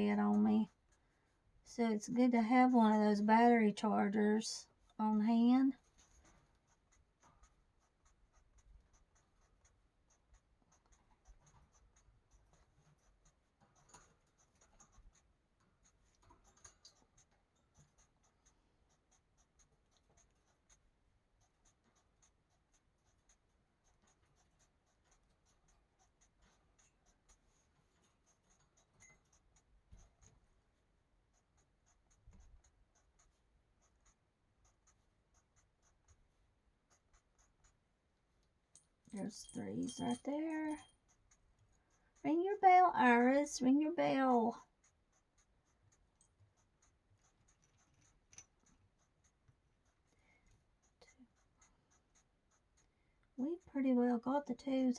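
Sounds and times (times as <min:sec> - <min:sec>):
marker scratching on paper: 0:01.8 - 0:04.3, 0:04.9 - 0:37.9, 0:39.1 - 0:54.9.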